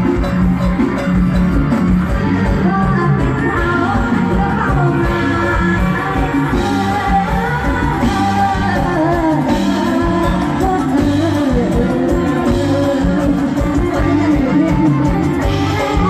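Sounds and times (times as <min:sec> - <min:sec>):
bass beat: 0:00.0 - 0:16.0
electric guitar: 0:00.0 - 0:16.0
person singing: 0:01.9 - 0:16.0.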